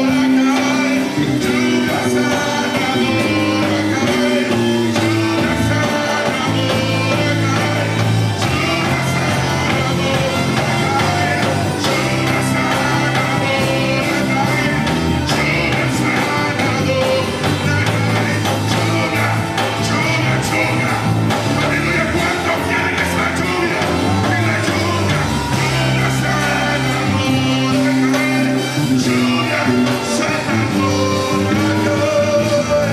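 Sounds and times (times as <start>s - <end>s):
bass: 0.0s - 32.9s
drums: 0.0s - 32.9s
live worship band music: 0.0s - 32.9s
man singing into a microphone: 0.0s - 32.9s.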